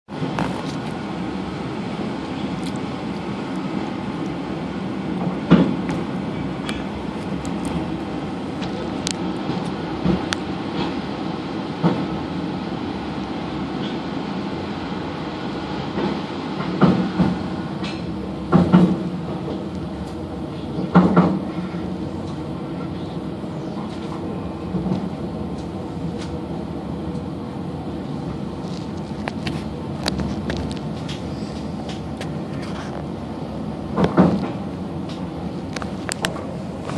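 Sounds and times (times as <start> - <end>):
train clunks and rattles: 0.1 - 36.9
train rumbling through tunnel: 0.1 - 36.9.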